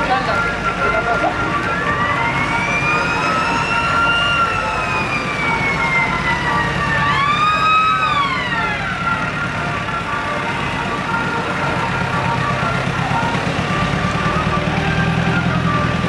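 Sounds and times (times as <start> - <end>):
jeep engines driving past: 0.0 - 16.0
sirens wailing: 0.0 - 16.0.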